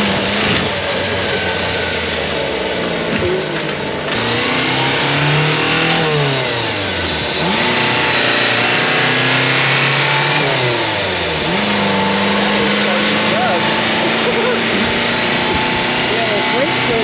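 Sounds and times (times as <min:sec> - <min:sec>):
small truck engine revving: 0:00.0 - 0:17.0.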